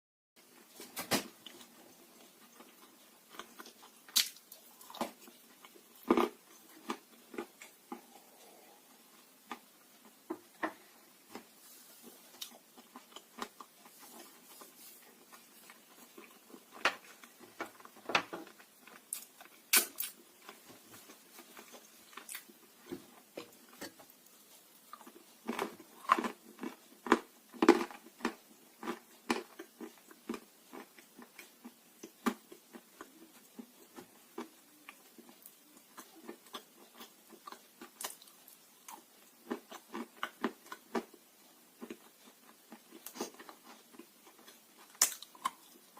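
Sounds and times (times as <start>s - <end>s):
crunching of clay being chewed: 1.4s - 45.9s.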